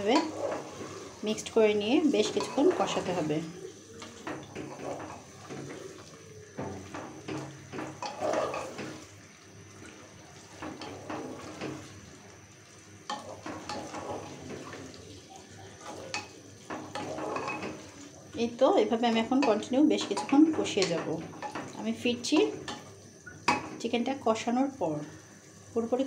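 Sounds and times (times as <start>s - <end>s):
spatula scraping pot: 0.0s - 9.1s, 10.4s - 12.0s, 13.1s - 23.6s
wet squelches of stirring: 0.0s - 26.0s.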